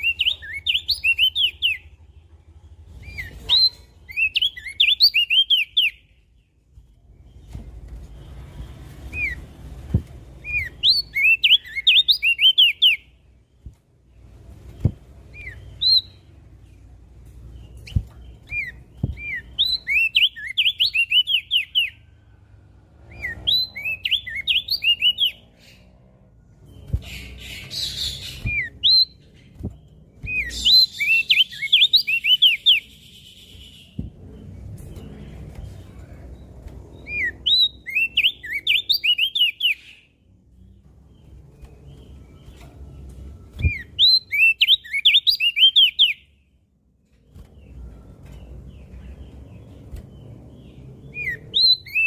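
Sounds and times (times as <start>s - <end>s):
bird singing high chirps: 0.0s - 2.0s, 2.7s - 13.2s, 14.7s - 22.2s, 23.0s - 26.0s, 26.6s - 46.6s, 47.3s - 52.0s.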